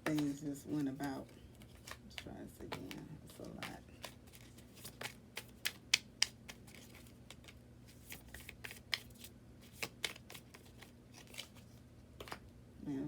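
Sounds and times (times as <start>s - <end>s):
cards being shuffled: 0.0s - 12.5s.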